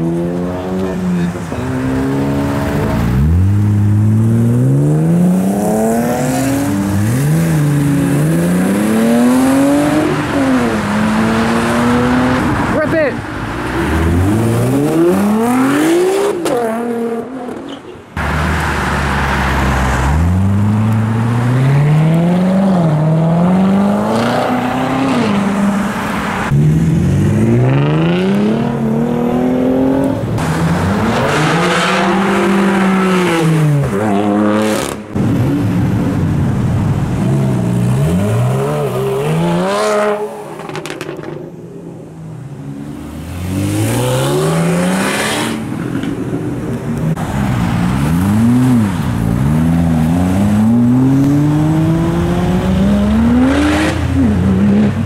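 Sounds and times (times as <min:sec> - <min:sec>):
sports car engines accelerating: 0:00.0 - 0:17.6, 0:18.2 - 0:55.0.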